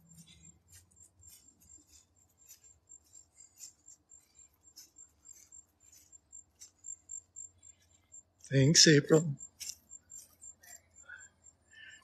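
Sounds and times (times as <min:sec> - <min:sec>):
soft rustles: 0:00.0 - 0:08.5, 0:09.5 - 0:10.9
high pulsing insect chirp: 0:00.0 - 0:12.0.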